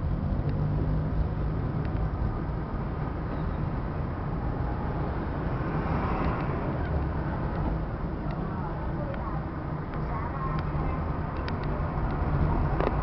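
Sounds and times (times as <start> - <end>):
car engine rumble: 0.0 - 13.0
road noise hiss: 0.0 - 13.0.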